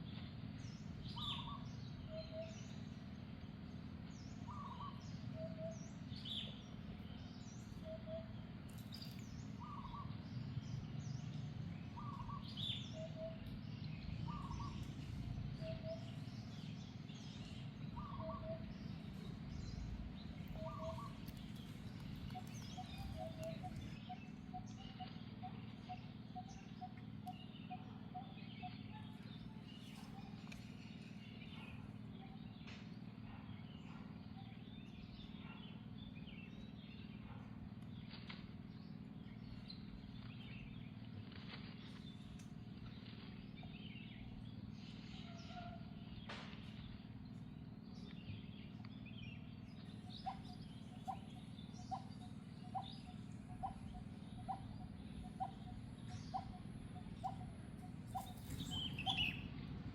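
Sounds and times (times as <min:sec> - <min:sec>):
birds calling: 0:00.0 - 0:59.9
steady low rumble: 0:00.0 - 0:59.9.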